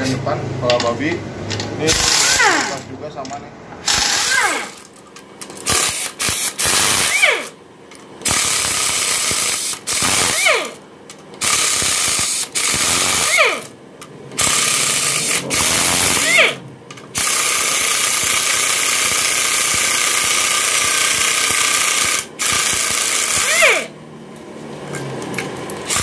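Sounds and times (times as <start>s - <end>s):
pneumatic impact wrench hammering: 1.5s - 2.9s, 3.8s - 7.6s, 8.2s - 24.0s, 24.9s - 26.0s.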